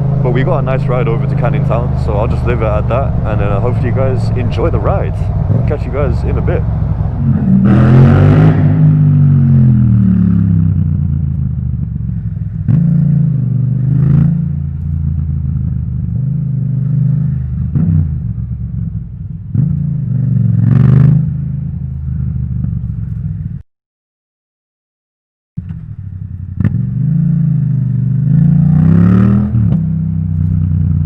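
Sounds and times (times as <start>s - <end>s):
motorcycle engine revving: 0.0s - 23.6s, 25.6s - 31.0s.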